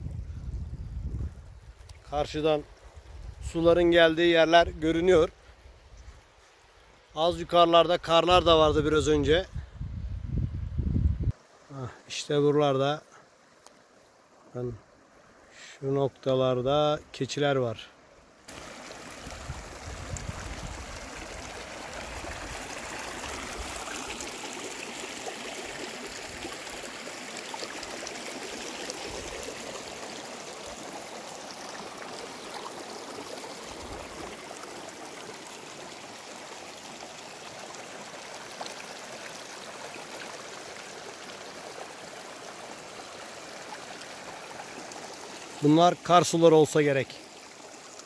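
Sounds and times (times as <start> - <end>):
stream running over stones: 0.0 - 9.5, 11.3 - 48.0.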